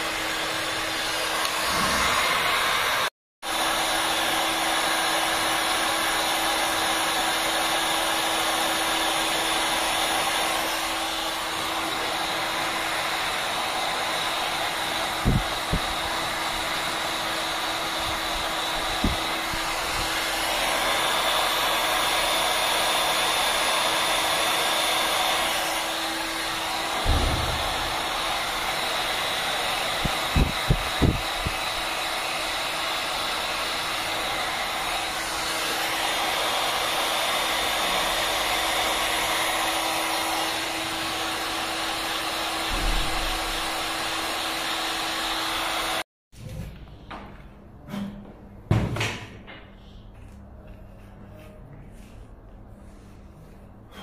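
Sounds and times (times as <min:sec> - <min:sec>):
hot air gun blowing: 0:00.0 - 0:46.0.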